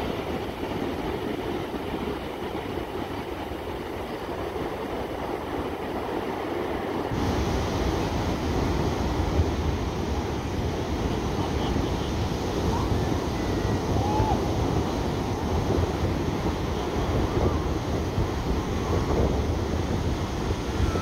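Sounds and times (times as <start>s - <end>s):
ocean surf breaking: 0.0s - 21.0s
wind rumbling on microphone: 0.0s - 21.0s.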